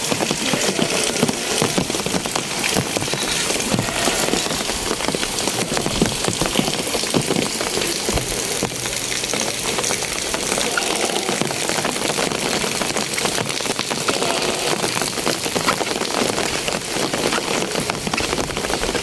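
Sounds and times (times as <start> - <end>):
heavy rain on roofs: 0.0 - 19.0.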